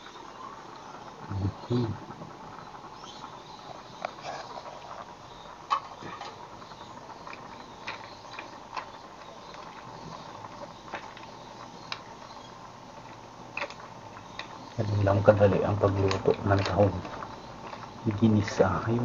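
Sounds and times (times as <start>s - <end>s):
faint hum: 0.0s - 19.0s
clicks and rustles in a pot: 2.0s - 19.0s.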